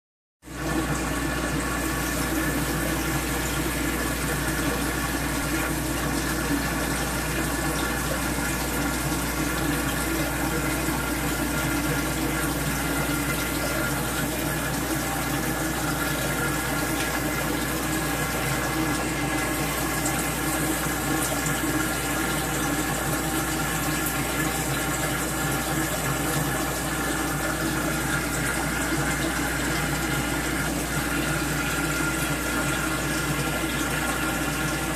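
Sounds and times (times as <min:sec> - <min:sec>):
filter low hum: 0:00.5 - 0:34.9.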